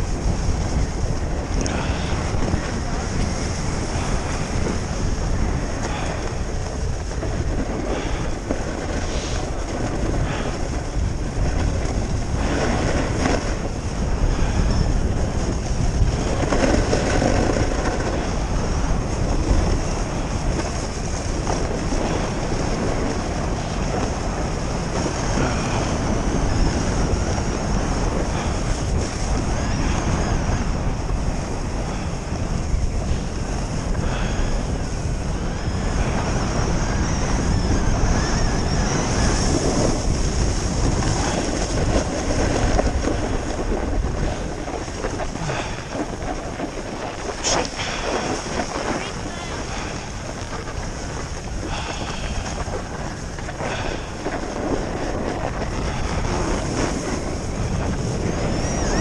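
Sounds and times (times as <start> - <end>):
skis scraping on packed snow: 0.0 - 59.0
wind noise on microphone: 0.0 - 59.0.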